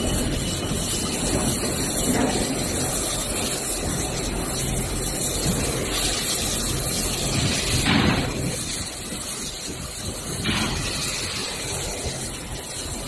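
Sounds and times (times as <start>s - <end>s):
production line machinery hiss and hum: 0.0s - 13.0s.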